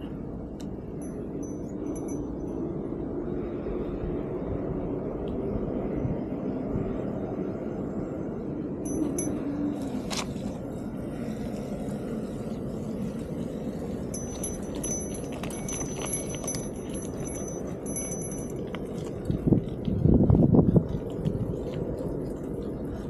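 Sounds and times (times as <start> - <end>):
faint high-pitched ringing tones: 0.0 - 19.2
bicycle wind and riding noise: 0.0 - 23.0.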